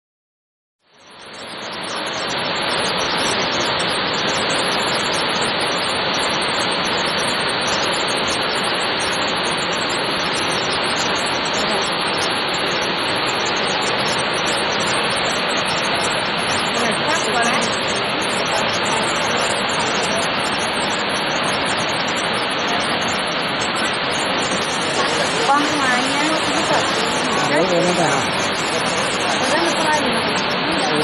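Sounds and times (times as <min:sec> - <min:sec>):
waterfall rushing: 0:01.4 - 0:31.0.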